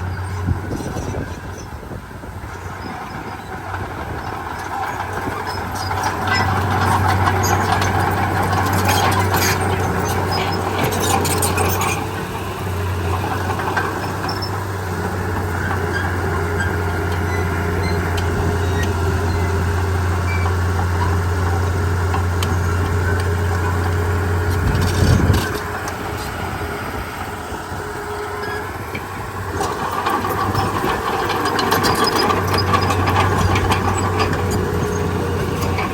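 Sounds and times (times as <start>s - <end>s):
bulldozer diesel engine running: 0.0s - 35.9s
tracks clanking and squeaking: 0.0s - 35.9s.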